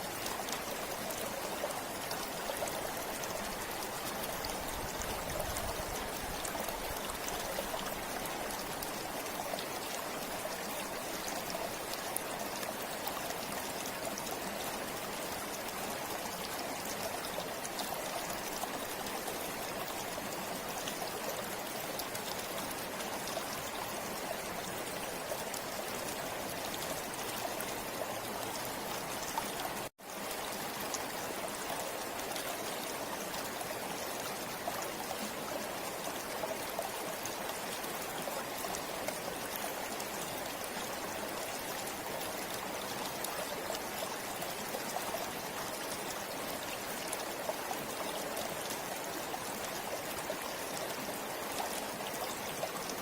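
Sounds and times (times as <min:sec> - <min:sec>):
river water flowing over stones: 0:00.0 - 0:53.0.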